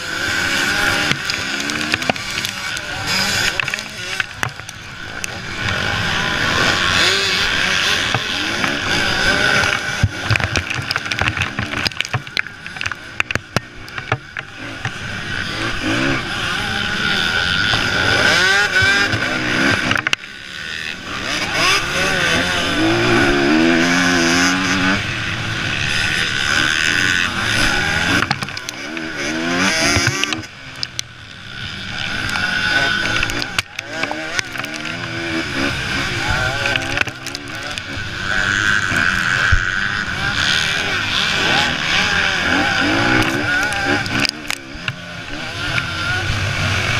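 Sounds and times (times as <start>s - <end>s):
motocross bikes revving: 0.0s - 46.9s.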